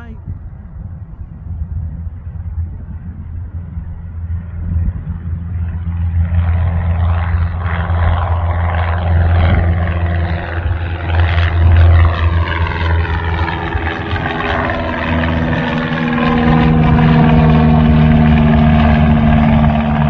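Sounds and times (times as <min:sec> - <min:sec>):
propeller plane engine: 0:00.0 - 0:20.0
steady low rumble: 0:00.0 - 0:20.0.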